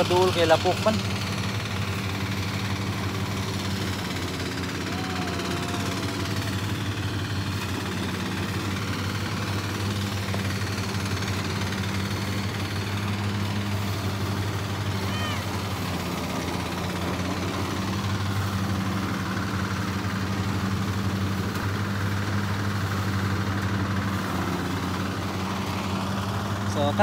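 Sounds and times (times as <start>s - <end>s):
rice thresher engine humming: 0.0s - 27.0s.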